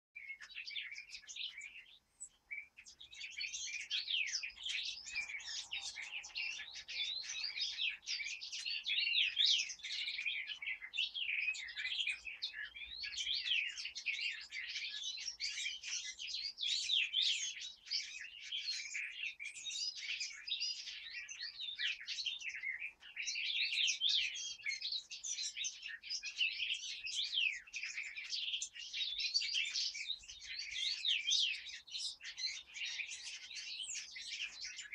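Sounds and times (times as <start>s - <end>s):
songbird chorus: 0.2s - 34.9s.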